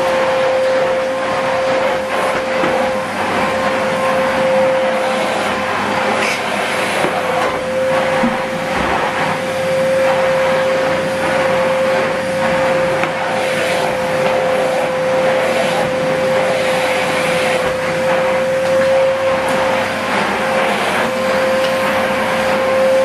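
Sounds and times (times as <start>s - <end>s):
vacuum cleaner running: 0.0s - 23.0s
vacuum nozzle pushed over carpet: 0.0s - 23.0s.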